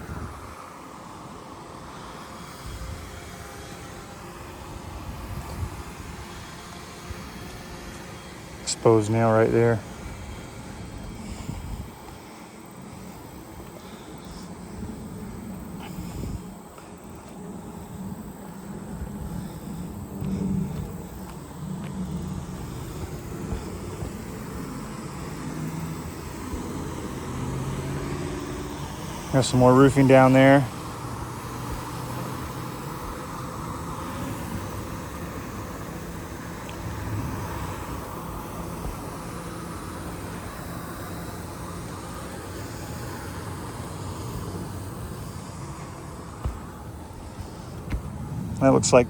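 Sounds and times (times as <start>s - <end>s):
low engine-like hum: 0.0s - 49.0s
outdoor background noise: 0.0s - 49.0s.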